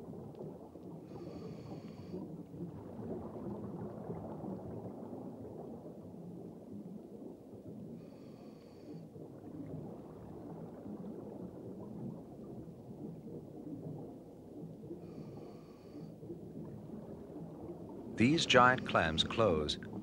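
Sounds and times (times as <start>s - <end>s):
underwater crackling rumble: 0.0s - 20.0s.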